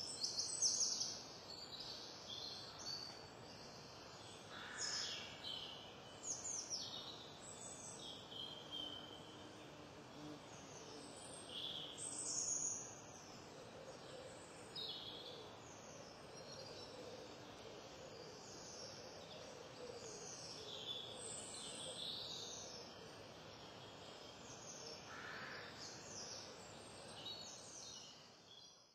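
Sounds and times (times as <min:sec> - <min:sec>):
faint steady hiss: 0:00.0 - 0:28.9
songbirds singing: 0:00.0 - 0:28.9.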